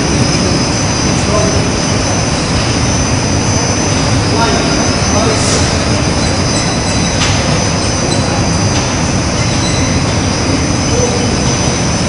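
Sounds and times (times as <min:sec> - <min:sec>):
high mechanical whines: 0:00.0 - 0:12.0
industrial machinery running: 0:00.0 - 0:12.0.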